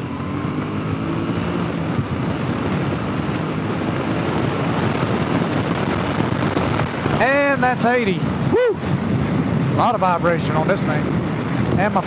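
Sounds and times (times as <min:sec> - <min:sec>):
motorcycle engine accelerating: 0:00.0 - 0:12.0
wind rushing over microphone: 0:00.0 - 0:12.0.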